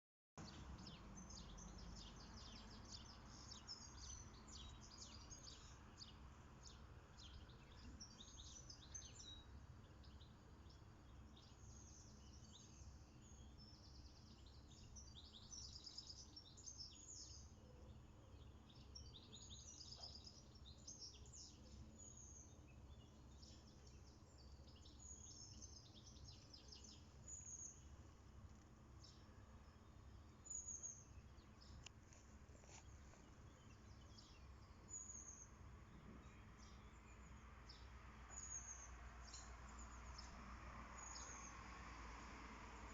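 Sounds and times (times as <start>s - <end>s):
songbirds chirping and trilling: 0.4s - 42.9s.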